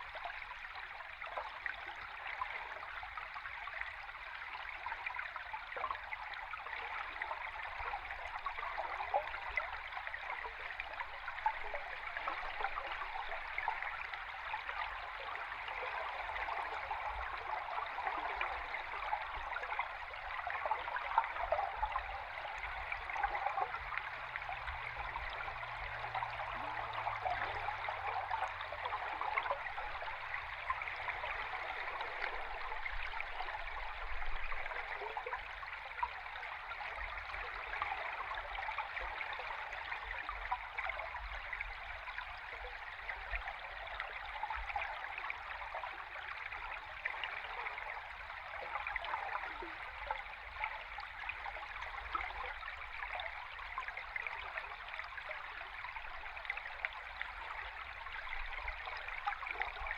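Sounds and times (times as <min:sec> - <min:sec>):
underwater rushing stream: 0:00.0 - 0:59.9.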